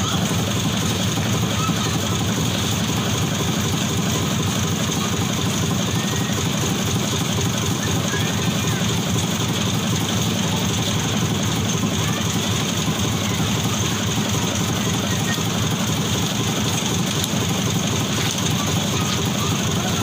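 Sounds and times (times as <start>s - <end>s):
construction machine engine running: 0.0s - 20.0s.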